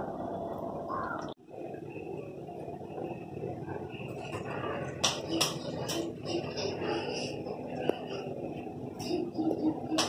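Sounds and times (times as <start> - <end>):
low background noise: 0.0 - 10.0.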